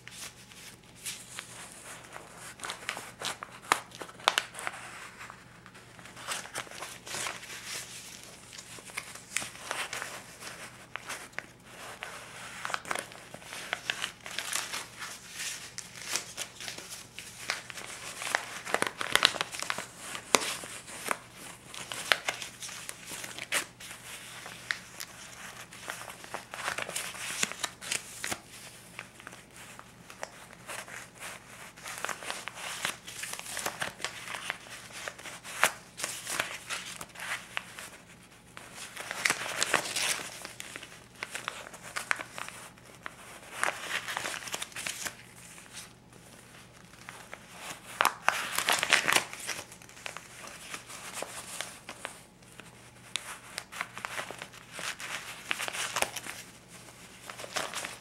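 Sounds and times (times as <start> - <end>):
banknotes rustling: 0.0 - 58.0.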